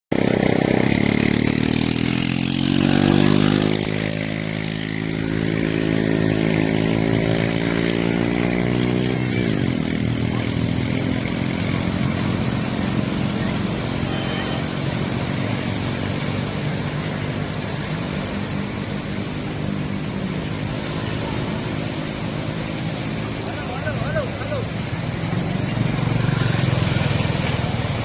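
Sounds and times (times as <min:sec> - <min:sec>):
steady rushing noise: 0:00.1 - 0:28.0.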